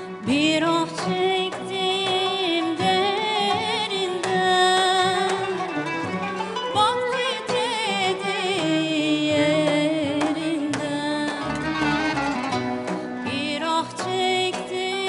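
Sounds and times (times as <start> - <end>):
instrumental accompaniment: 0.0 - 15.0
woman singing with vibrato: 0.1 - 5.7, 6.6 - 12.4, 13.2 - 15.0.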